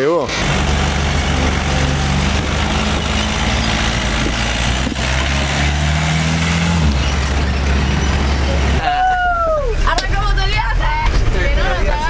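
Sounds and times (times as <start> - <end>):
van engine running: 0.2 - 12.0
tyres rumbling on cobblestones: 0.3 - 12.0.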